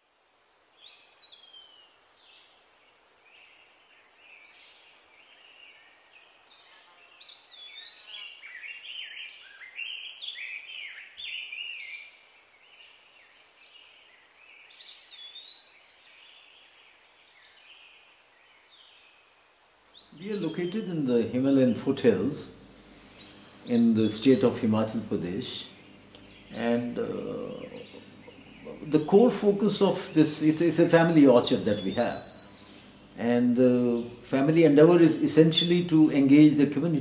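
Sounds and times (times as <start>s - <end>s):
songbirds singing: 0.3s - 37.0s.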